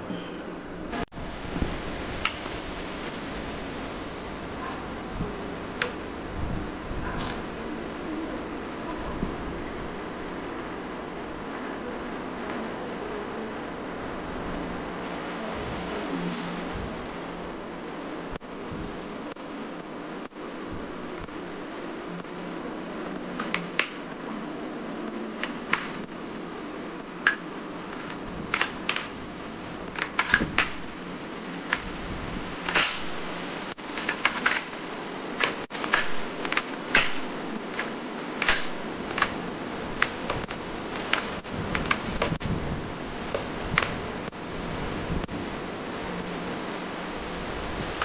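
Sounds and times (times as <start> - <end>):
steady hiss: 0.0 - 48.0.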